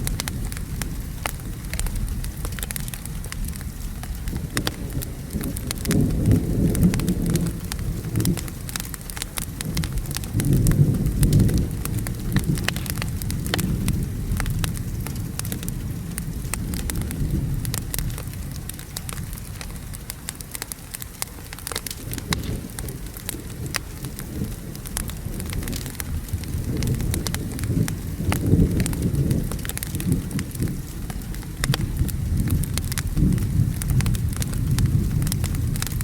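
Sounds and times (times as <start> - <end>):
rumble of thunder: 0.0 - 20.1, 21.6 - 36.0
steady rain: 0.0 - 36.0
wood fire crackling: 0.0 - 36.0.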